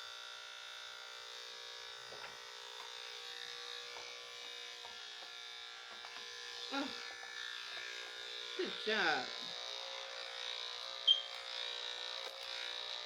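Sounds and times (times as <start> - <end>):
electric clippers humming: 0.0 - 13.0.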